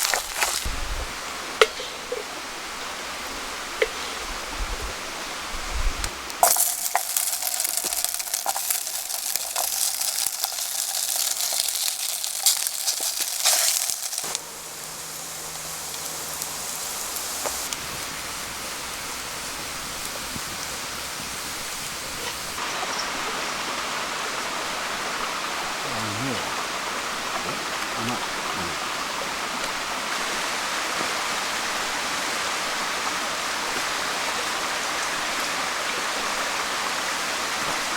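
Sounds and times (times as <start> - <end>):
food sizzling in a pan: 0.0 - 5.5, 6.1 - 23.5, 30.1 - 37.9
quiet steady hiss: 0.0 - 37.9.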